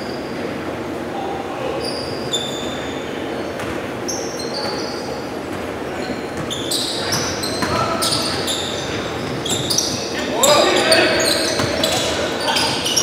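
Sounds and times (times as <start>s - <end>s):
echoing hall background: 0.0s - 13.0s
sneakers squeaking on hardwood floor: 1.8s - 13.0s.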